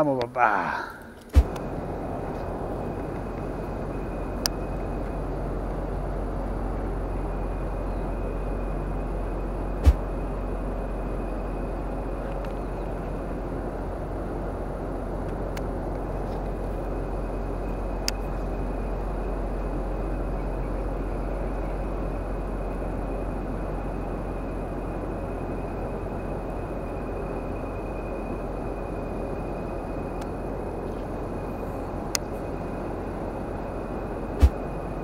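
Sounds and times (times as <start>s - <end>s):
faint high whine: 0.0s - 35.0s
low mechanical drone: 0.0s - 35.0s.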